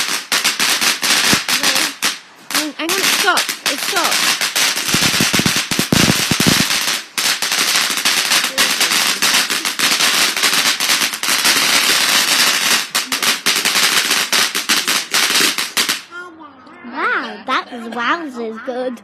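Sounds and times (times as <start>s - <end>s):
firework crackles and pops: 0.0s - 16.1s.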